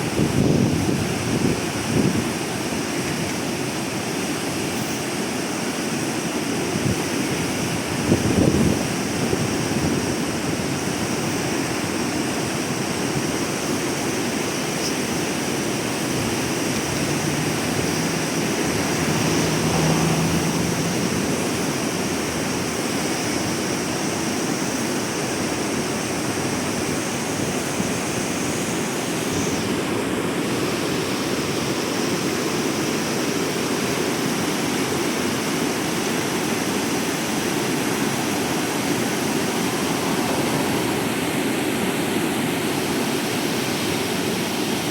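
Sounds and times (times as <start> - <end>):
river water rushing over rapids: 0.0 - 44.9.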